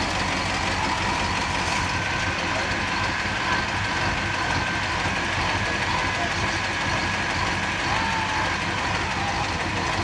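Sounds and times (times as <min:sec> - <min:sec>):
crane engine rumbling: 0:00.0 - 0:10.0.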